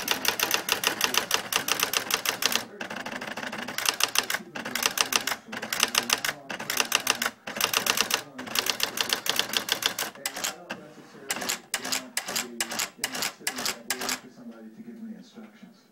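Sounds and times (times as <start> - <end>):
electronic typewriter printing: 0.0 - 14.3.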